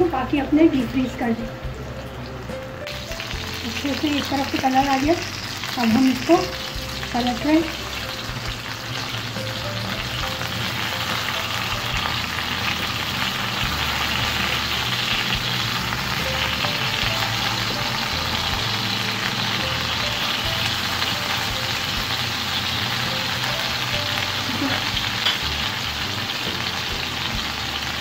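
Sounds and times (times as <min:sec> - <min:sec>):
kebabs sizzling in oil: 0:00.0 - 0:28.0.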